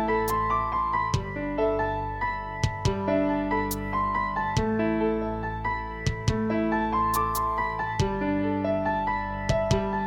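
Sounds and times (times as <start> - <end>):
keyboard-like melody: 0.0 - 10.0.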